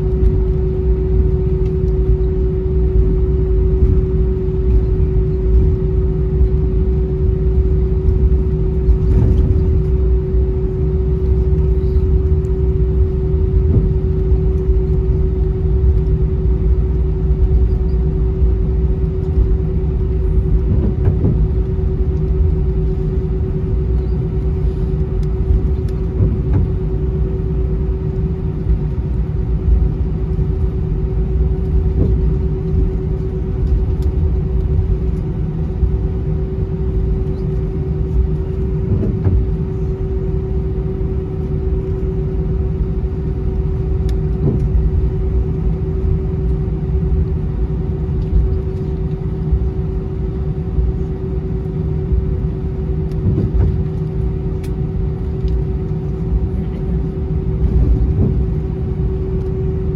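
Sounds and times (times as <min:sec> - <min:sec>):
cabin low rumble: 0:00.0 - 0:59.9
constant hum: 0:00.0 - 0:59.9.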